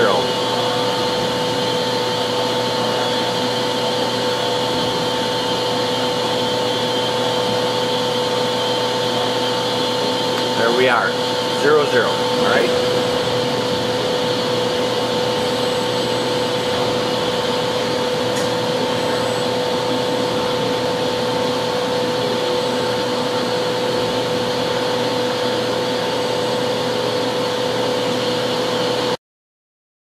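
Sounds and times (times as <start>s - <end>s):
milling machine humming: 0.0s - 29.2s.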